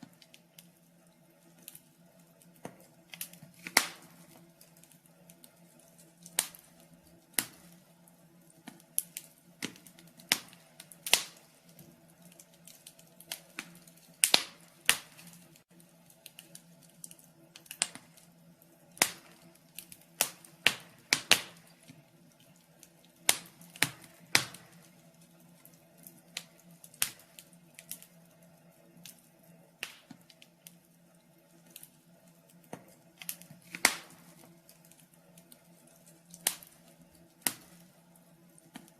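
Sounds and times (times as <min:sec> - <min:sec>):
faint steady hum: 0:00.0 - 0:38.9
wood fire crackling: 0:00.0 - 0:38.9.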